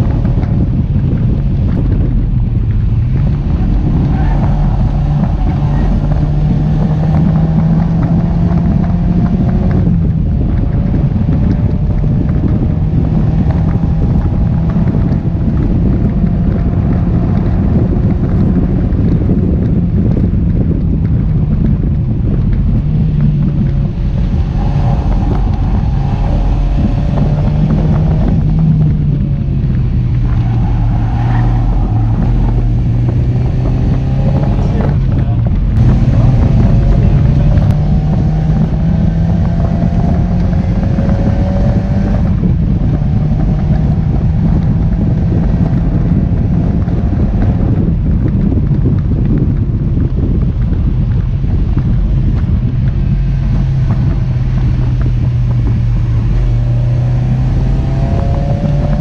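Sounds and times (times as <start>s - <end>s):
car engine accelerating: 0.0s - 59.0s
wind noise: 0.0s - 59.0s.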